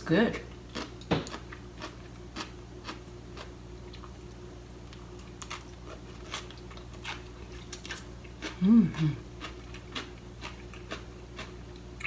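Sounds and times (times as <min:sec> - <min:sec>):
steady low hum: 0:00.0 - 0:12.0
person chewing crunchy salad: 0:00.7 - 0:12.0.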